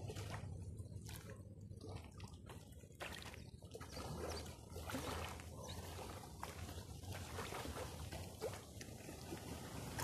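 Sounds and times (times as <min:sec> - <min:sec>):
floodwater lapping and trickling: 0:00.0 - 0:10.0
soft splashes: 0:00.0 - 0:10.0.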